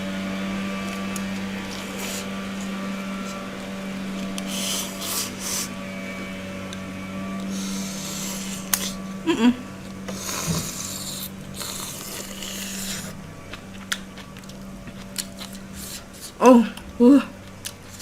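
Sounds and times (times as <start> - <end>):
low hum: 0.0 - 18.0
crunching and chewing: 0.6 - 9.2, 9.8 - 18.0.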